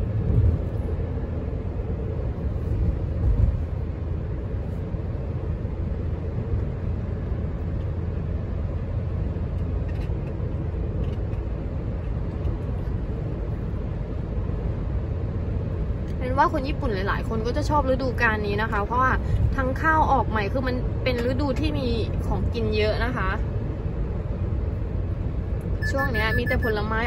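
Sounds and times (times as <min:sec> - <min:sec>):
car engine and tyre noise: 0:00.0 - 0:27.0.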